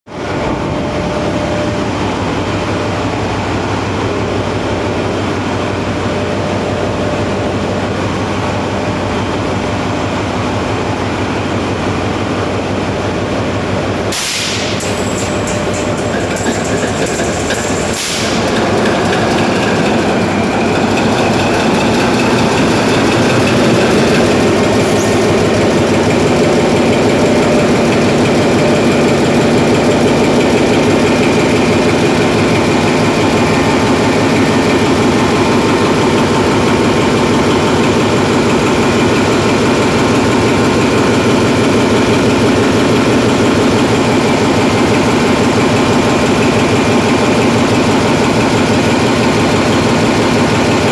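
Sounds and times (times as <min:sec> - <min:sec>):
diesel generator engine revving: 0:00.1 - 0:50.9.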